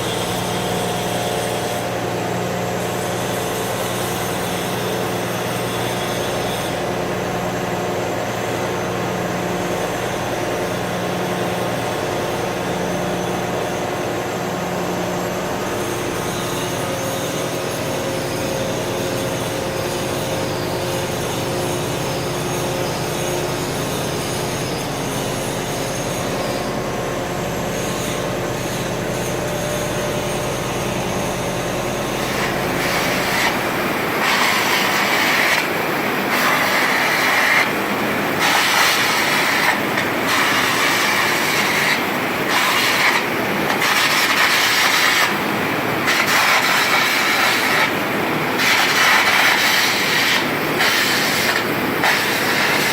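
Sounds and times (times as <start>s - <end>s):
industrial machinery noise: 0.0s - 52.9s.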